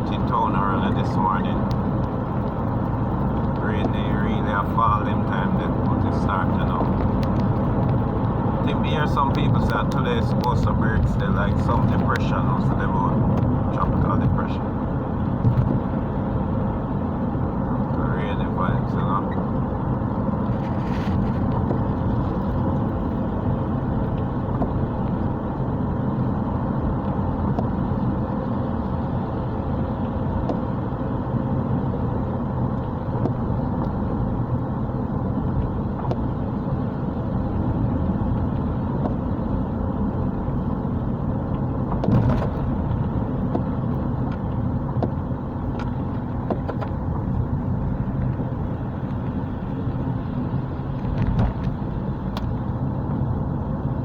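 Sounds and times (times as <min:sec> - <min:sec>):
car engine hum from inside: 0:00.0 - 0:54.0
tyre rumble on wet road: 0:00.2 - 0:17.1, 0:19.4 - 0:54.0.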